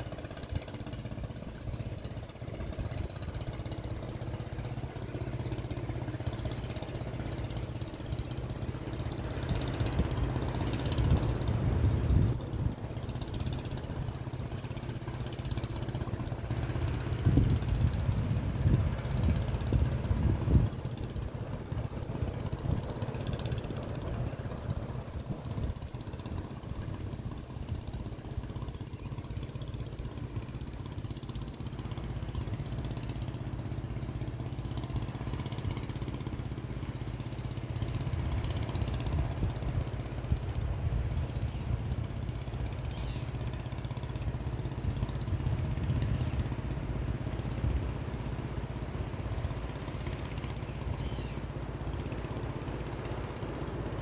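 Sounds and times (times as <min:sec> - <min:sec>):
wind buffeting microphone: 0:00.0 - 0:43.0, 0:43.8 - 0:51.3.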